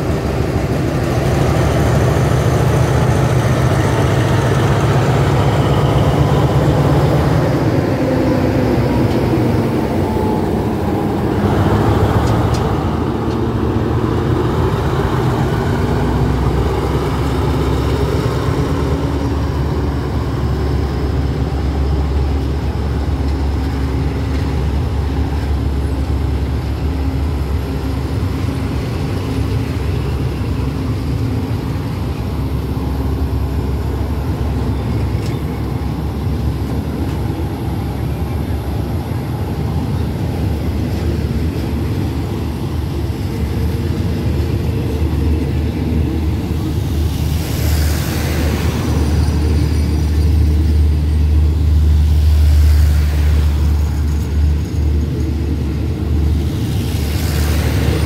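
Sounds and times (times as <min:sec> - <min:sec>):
diesel locomotive engine: 0:00.0 - 0:58.0
train wheels rumbling on rails: 0:00.0 - 0:58.0.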